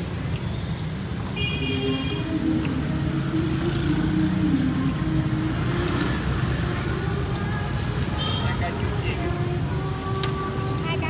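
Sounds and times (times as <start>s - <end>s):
street traffic engines: 0.0s - 11.0s.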